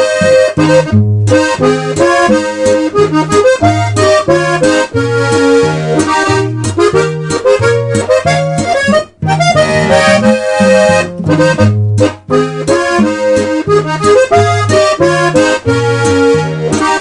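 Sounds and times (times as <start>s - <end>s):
music with bass and beat: 0.0s - 17.0s.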